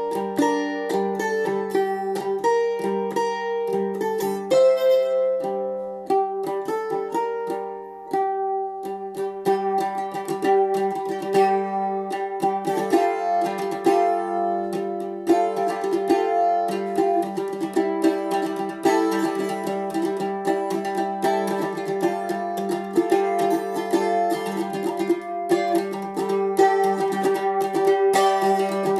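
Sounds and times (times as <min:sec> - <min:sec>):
mandolin melody: 0:00.0 - 0:28.9.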